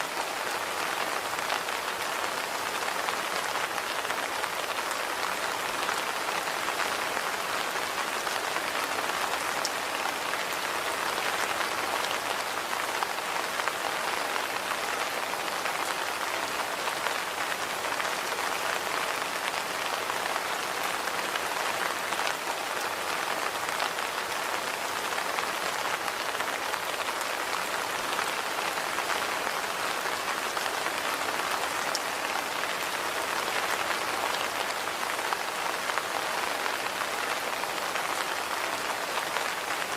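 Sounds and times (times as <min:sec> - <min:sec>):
steady rain on hard surfaces: 0:00.0 - 0:39.9.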